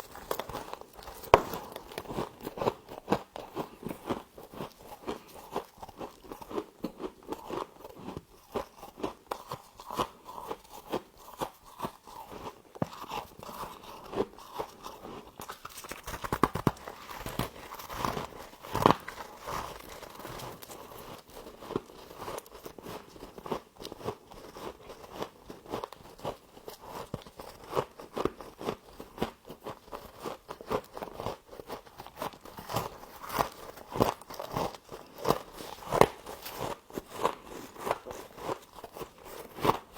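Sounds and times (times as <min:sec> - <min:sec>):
crunching of frost being chewed: 0:00.0 - 0:39.9.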